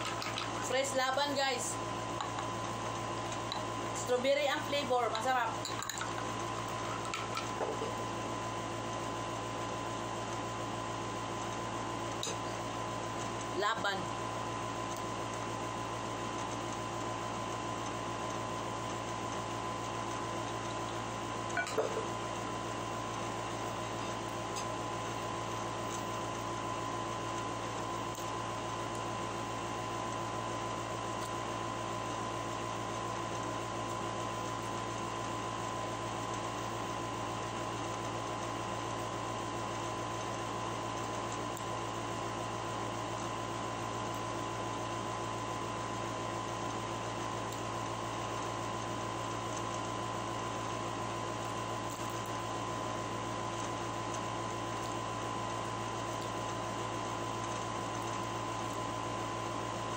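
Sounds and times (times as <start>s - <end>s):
appliance mechanical hum: 0.0s - 59.9s.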